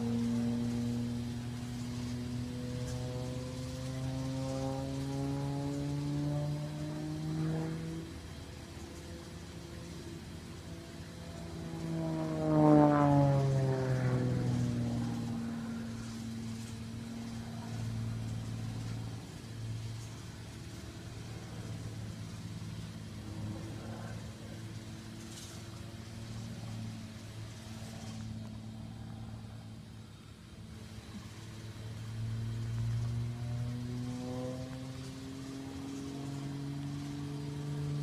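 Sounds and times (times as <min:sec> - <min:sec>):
propeller airplane flying past: 0:00.0 - 0:38.0.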